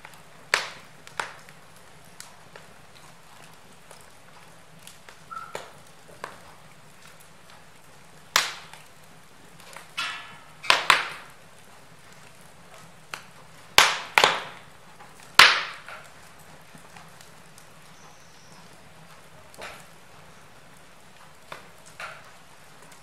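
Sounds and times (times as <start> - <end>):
faint steady hiss: 0.0 - 23.0
wood fire crackling: 0.0 - 23.0.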